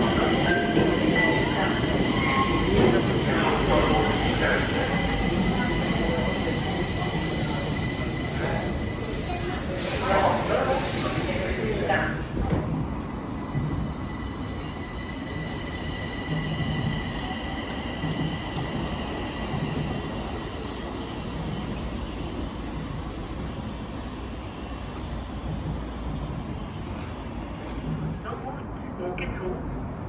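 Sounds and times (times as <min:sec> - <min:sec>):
high train whine: 0:00.0 - 0:30.0
train rumbling on rails: 0:00.0 - 0:30.0.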